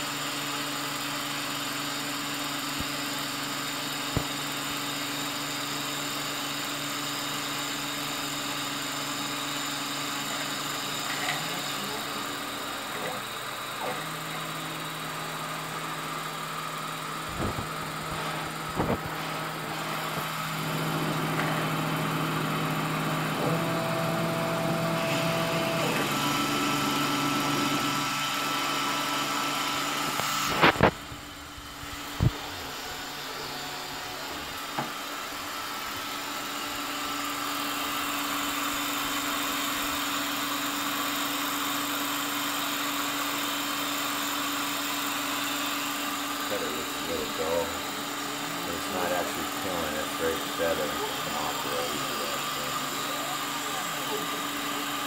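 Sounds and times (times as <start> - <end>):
drill press cutting plywood: 0.0 - 55.0.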